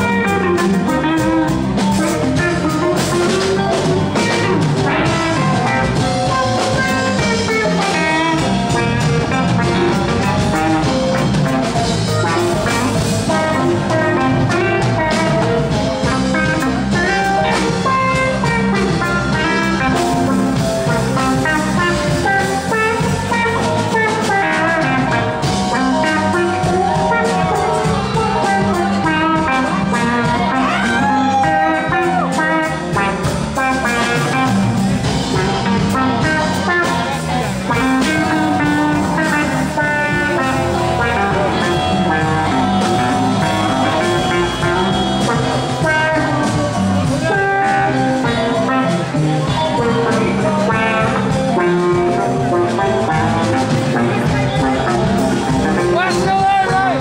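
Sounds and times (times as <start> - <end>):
electric guitar lead line: 0.0 - 57.0
live rock band playing: 0.0 - 57.0.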